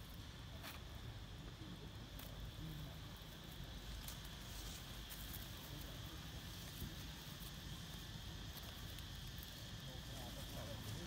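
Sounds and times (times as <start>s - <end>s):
rustling dry leaves: 0.0s - 11.0s
steady high hum: 0.0s - 11.0s.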